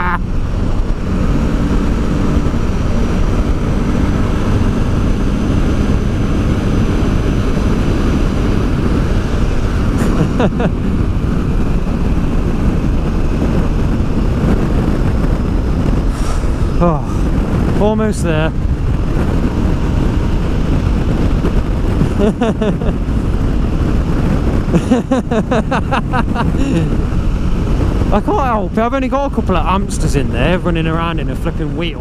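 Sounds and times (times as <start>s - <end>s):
motorcycle engine drone: 0.0s - 32.0s
wind rush on microphone: 0.0s - 32.0s.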